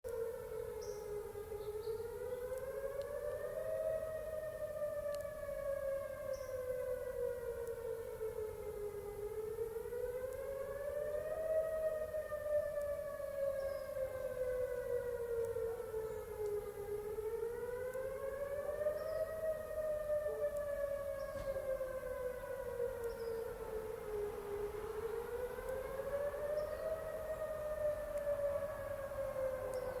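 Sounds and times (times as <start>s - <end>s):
air raid siren wailing: 0.1s - 30.0s.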